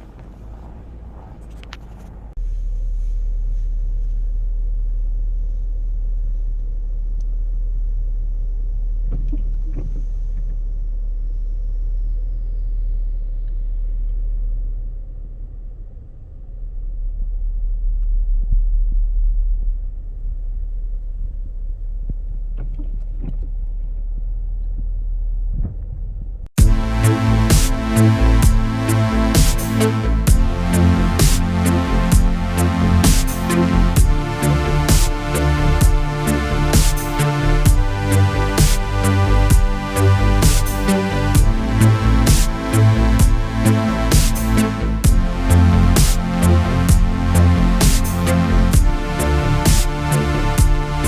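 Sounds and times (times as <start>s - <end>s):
pickup truck engine rumble: 0.0s - 11.1s, 20.0s - 51.0s.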